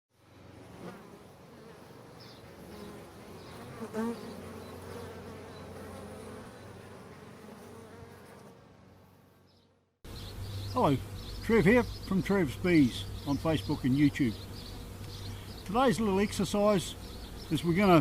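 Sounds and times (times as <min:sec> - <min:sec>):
honey bees buzzing: 0:00.2 - 0:18.0.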